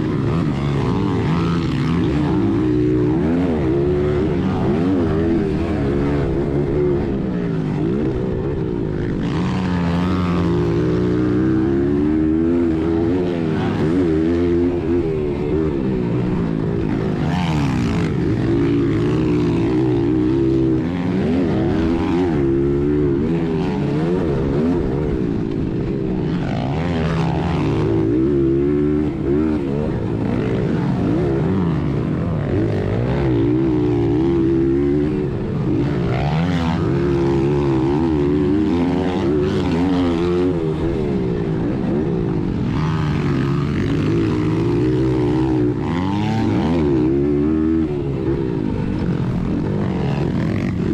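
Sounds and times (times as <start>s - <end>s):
motorcycle engine racing: 0.0s - 50.9s.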